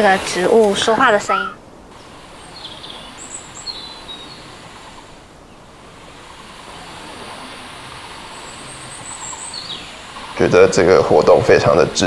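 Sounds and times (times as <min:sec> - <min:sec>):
outdoor background hiss: 0:00.0 - 0:12.0
high bird chirps: 0:00.2 - 0:10.8.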